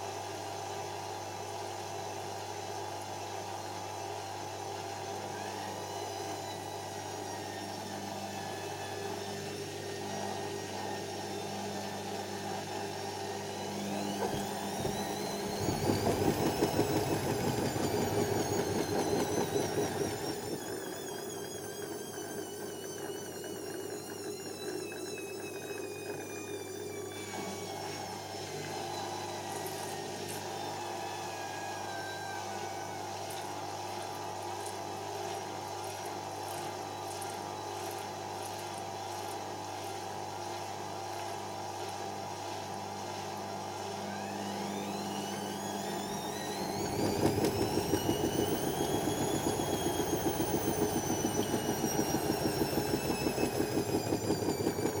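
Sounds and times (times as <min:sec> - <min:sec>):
motor whine: 0:00.0 - 0:55.0
washing machine hum: 0:00.0 - 0:55.0.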